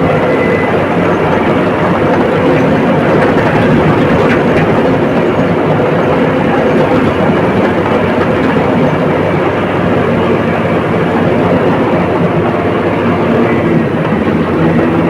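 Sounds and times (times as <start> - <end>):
bulldozer diesel engine running: 0.0 - 15.0
steel tracks clattering: 0.0 - 15.0.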